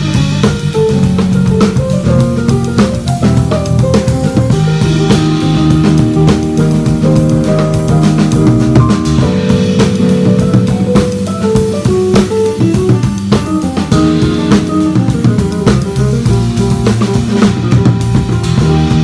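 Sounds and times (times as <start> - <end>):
band playing jazz-funk: 0.0 - 19.0.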